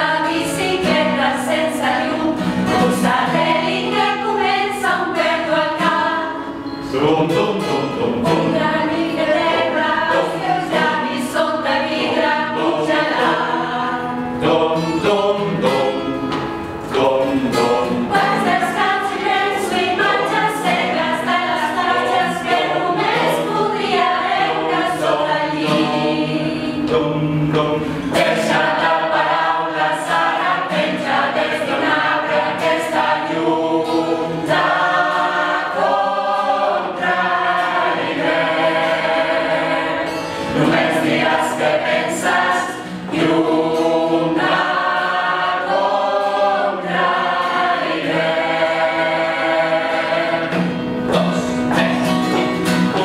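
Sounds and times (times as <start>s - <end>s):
group singing in harmony: 0.0s - 53.0s.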